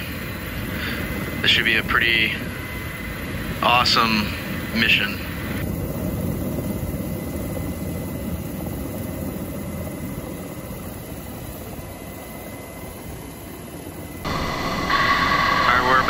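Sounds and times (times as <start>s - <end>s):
faint high whine: 0.0s - 16.0s
helicopter rotor and engines: 0.0s - 16.0s.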